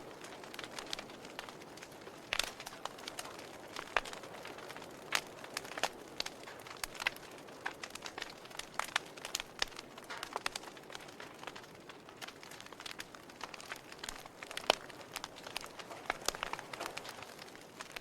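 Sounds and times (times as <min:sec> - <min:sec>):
campfire crackling and popping: 0:00.0 - 0:18.0
soft steady hiss: 0:00.0 - 0:18.0.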